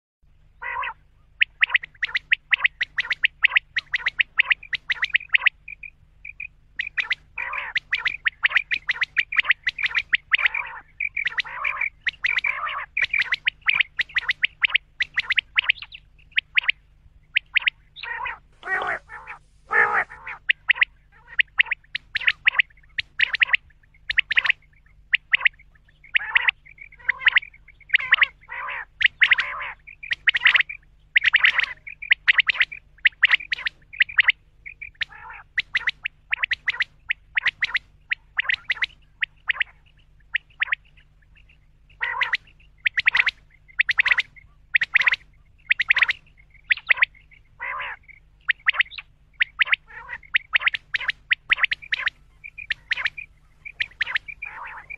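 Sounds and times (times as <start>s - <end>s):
quail calling: 0.6s - 54.9s.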